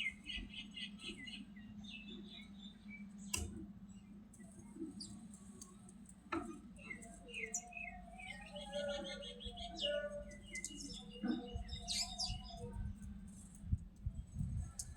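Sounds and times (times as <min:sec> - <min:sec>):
small birds chirping: 0:00.0 - 0:14.9
steady low hum: 0:00.0 - 0:14.9.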